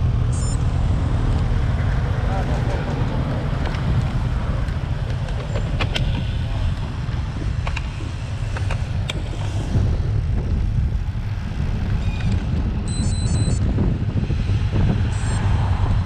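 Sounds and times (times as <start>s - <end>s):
tyre and road noise: 0.0s - 16.0s
wind rumbling on microphone: 0.0s - 16.0s.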